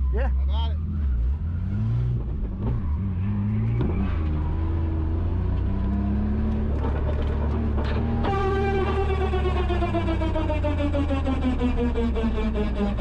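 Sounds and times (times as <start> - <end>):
car engine revving: 0.1 - 13.0.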